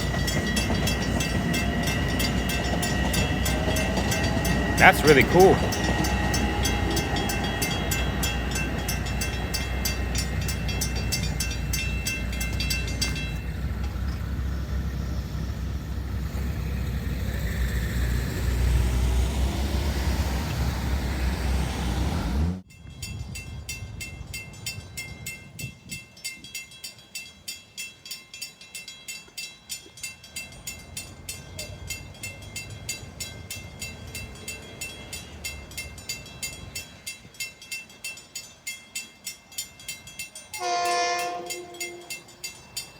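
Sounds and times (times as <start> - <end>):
train passing with low rumble: 0.0 - 42.9.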